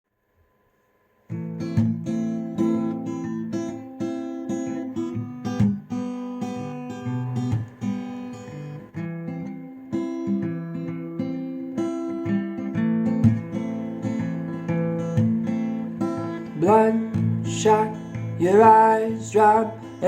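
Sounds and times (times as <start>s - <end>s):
acoustic guitar strumming chords: 1.3s - 20.0s.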